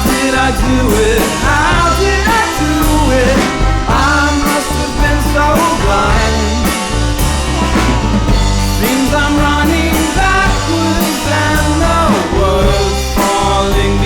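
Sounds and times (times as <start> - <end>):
bass: 0.0 - 14.0
drum kit beat with cymbals: 0.0 - 14.0.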